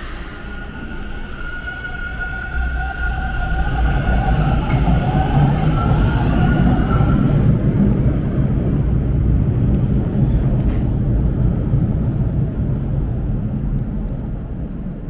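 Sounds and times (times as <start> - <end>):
subway train high-pitched whine: 0.0 - 15.0
subway train low rumble: 0.0 - 15.0.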